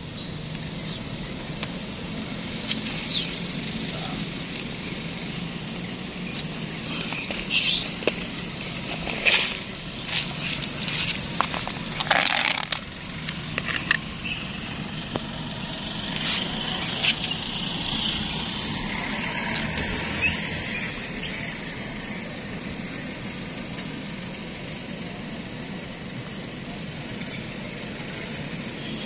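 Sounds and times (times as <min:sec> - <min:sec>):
vehicle passing on street: 0:00.0 - 0:29.0.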